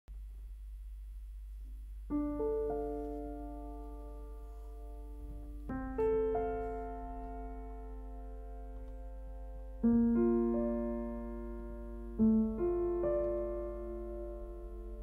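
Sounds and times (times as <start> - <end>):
piano playing slow chords: 2.0 - 15.0.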